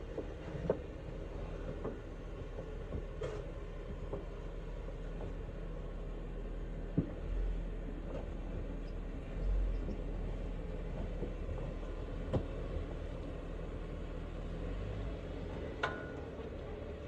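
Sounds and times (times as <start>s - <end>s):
car engine running low: 0.0s - 17.0s.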